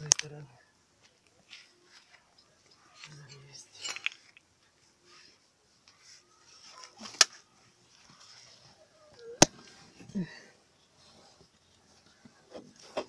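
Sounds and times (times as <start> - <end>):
faint rustling and handling: 0.0 - 13.0.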